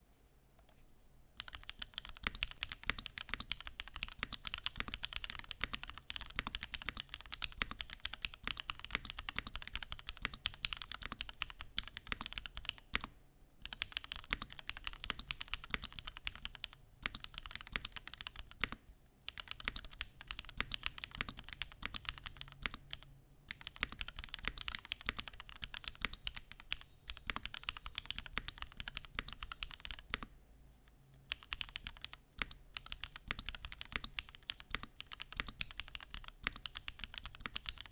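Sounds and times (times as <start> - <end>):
mechanical keyboard typing clicks: 1.4 - 30.3, 31.2 - 37.9.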